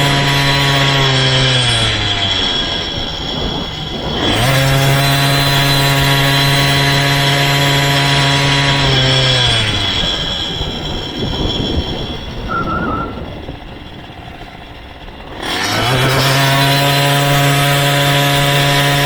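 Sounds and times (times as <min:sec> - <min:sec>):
small engine revving: 0:00.0 - 0:19.0.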